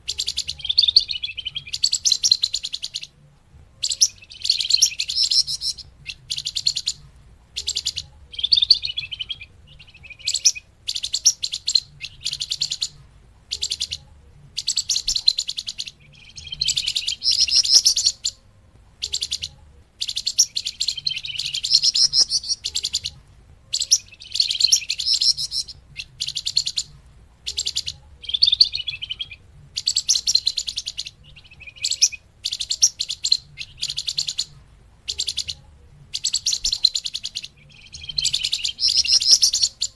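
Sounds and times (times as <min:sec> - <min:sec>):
faint low hum: 0:00.0 - 0:39.9
small bird chirping trills: 0:00.0 - 0:39.9.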